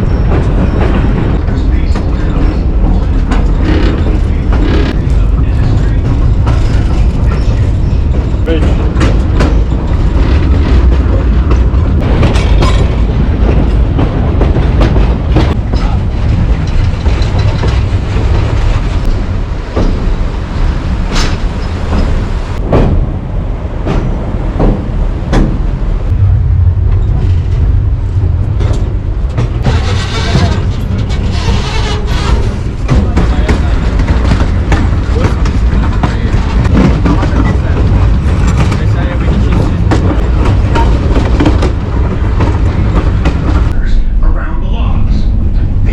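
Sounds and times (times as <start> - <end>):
wheels clacking over rails: 0.0 - 25.7, 27.0 - 43.8
train coach rumbling: 0.0 - 45.9.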